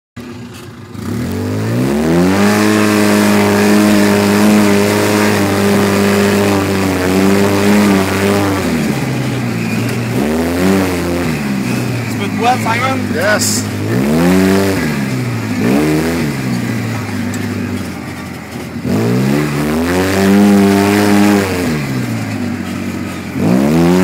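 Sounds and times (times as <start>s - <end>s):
engine revving hard: 0.9s - 18.0s, 18.6s - 24.0s.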